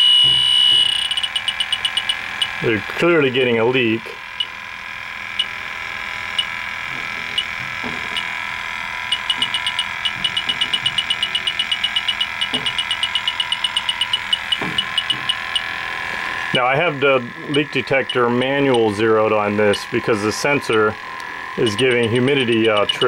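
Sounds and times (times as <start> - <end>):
leak detector beeping: 0.0 - 23.0
steady high hum: 0.0 - 23.0.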